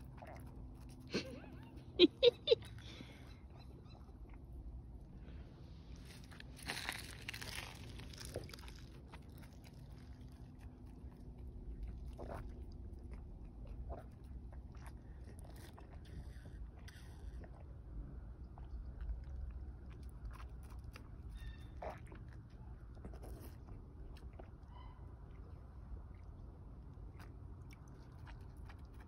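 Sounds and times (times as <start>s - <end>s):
goat slurping water: 0.0s - 3.0s, 6.2s - 29.0s.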